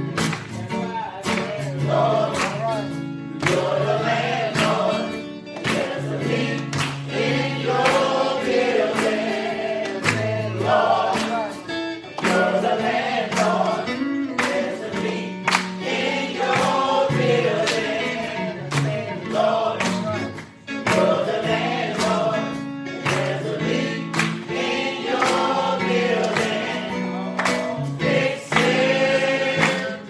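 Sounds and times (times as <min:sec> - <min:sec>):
gospel choir singing: 0:00.0 - 0:30.0.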